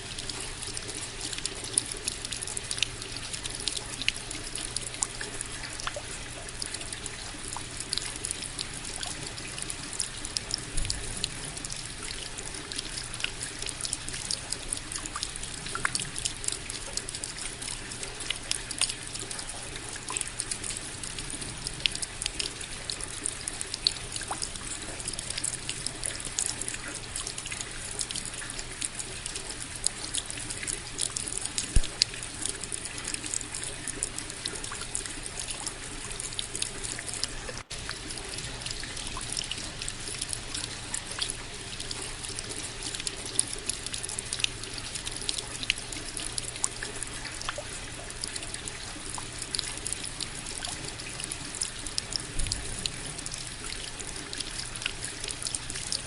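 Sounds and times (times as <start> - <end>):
steady rain: 0.0 - 56.0
sharp drip taps: 0.2 - 56.0.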